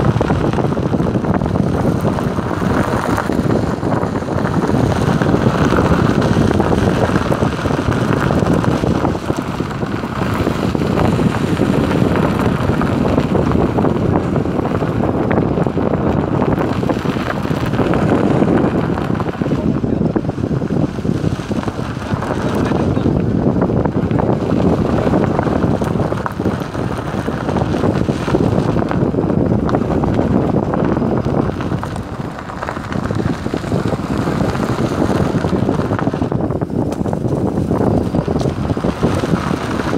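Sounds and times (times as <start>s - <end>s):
small car engine rumble: 0.0s - 39.9s
tyres on dirt track: 0.0s - 39.9s
wind buffeting microphone: 0.0s - 39.9s.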